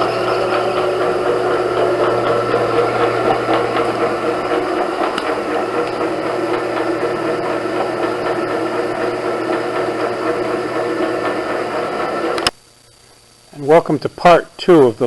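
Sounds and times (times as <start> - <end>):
lathe machine drone: 0.0 - 12.5
hydraulic hum and whine: 0.0 - 15.0.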